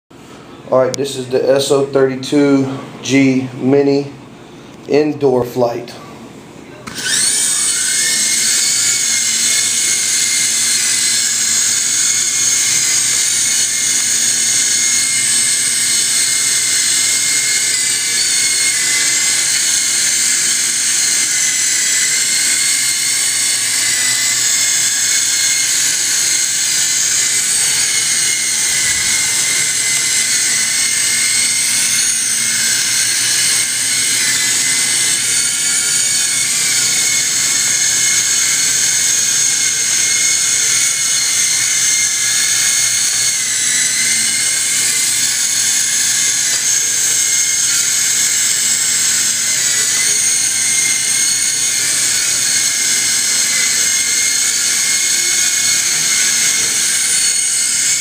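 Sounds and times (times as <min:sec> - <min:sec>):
small helicopter rotor whine: 0:06.8 - 0:58.0.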